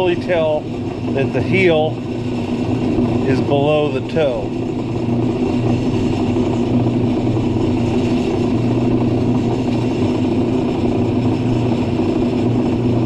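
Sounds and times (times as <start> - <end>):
bench grinder motor humming: 0.0 - 13.0.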